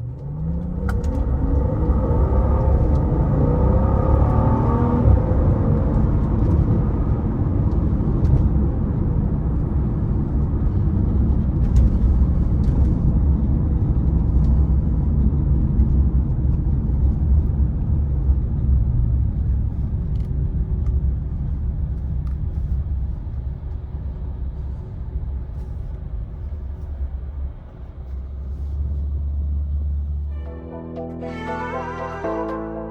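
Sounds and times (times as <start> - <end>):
car engine rumble while driving: 0.0 - 30.4.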